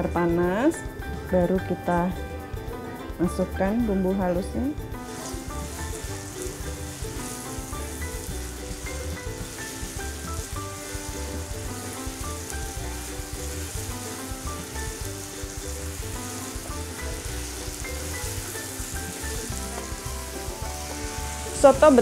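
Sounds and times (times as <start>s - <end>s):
background music with bass line: 0.0s - 22.0s
spice paste sizzling in oil: 3.8s - 22.0s.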